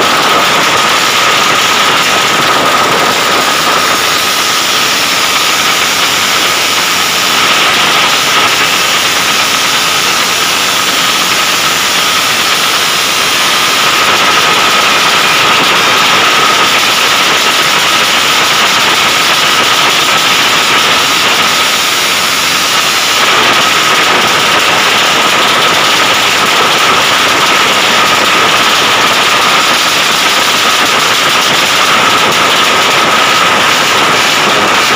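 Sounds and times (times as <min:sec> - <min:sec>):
racing motorcycle engine: 0:00.0 - 0:34.9.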